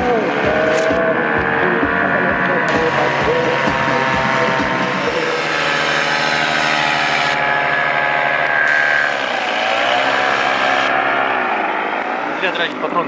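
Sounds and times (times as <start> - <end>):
paramotor engine and propeller: 0.0 - 13.0.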